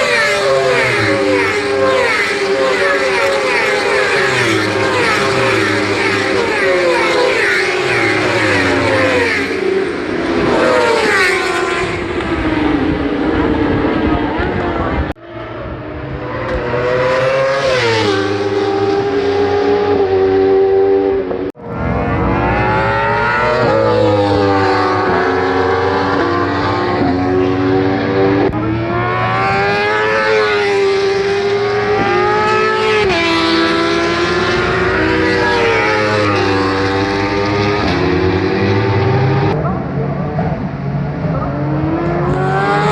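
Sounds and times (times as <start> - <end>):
racing motorcycle engine revving: 0.0 - 42.9.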